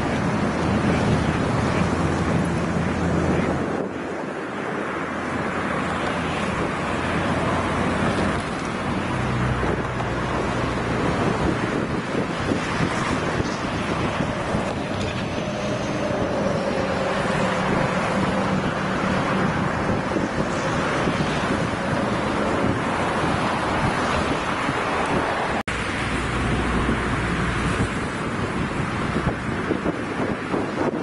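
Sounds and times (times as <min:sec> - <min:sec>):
train wheels rumbling on track: 0:00.0 - 0:31.0
wind on microphone: 0:00.0 - 0:31.0.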